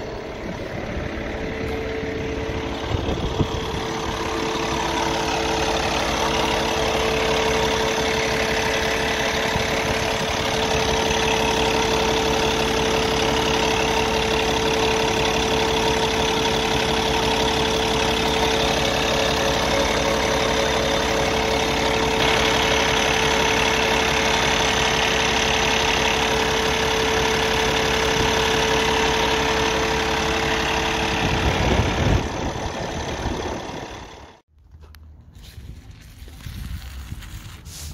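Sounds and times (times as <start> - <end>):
diesel engine idling: 0.0 - 36.4.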